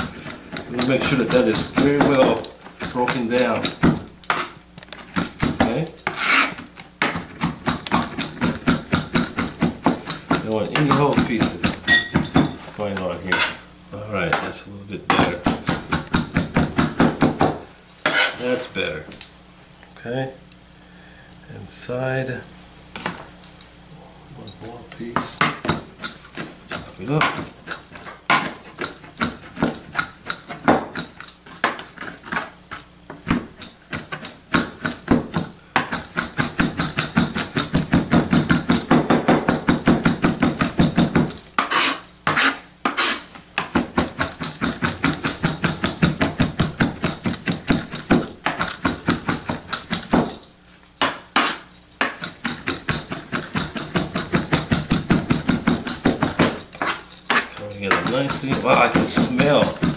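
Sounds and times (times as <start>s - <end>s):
knife chopping on plastic board: 0.0s - 12.6s, 15.1s - 18.4s, 25.0s - 50.4s, 51.0s - 59.9s.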